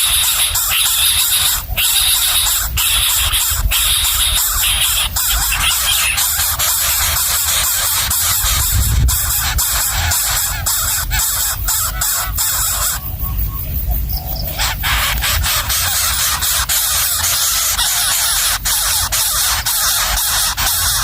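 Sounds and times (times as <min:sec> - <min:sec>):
nestling birds begging squeals: 0:00.0 - 0:21.0.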